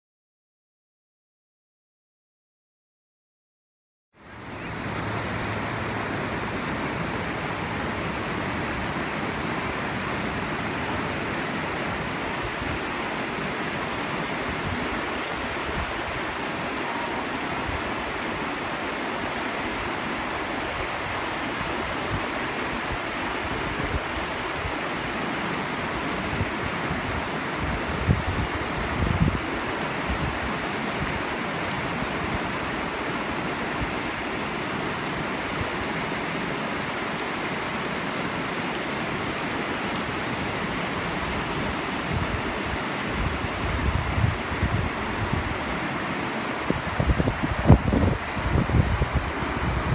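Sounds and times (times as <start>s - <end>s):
river rushing over stones: 4.2s - 49.9s.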